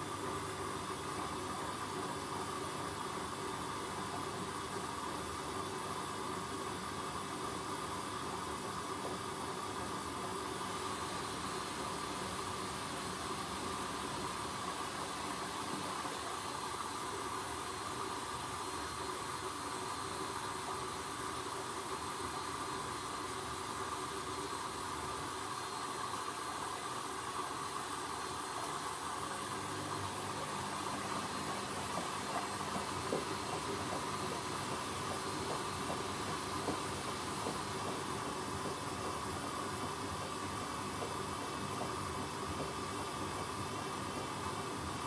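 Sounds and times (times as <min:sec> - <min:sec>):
washing machine hissing: 0:00.0 - 0:45.0.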